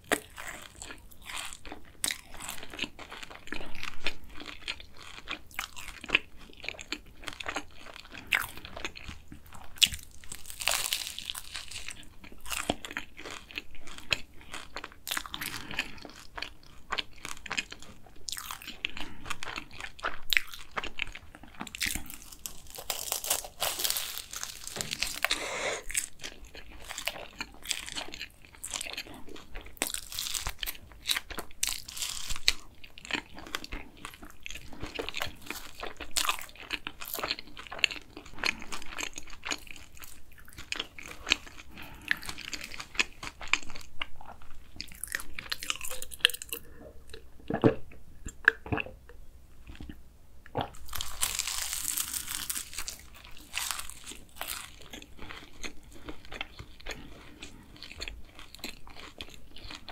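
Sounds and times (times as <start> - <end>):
crunching bites of pastry: 0.0 - 46.6, 50.6 - 59.9
chewing with small crackles: 0.0 - 59.9.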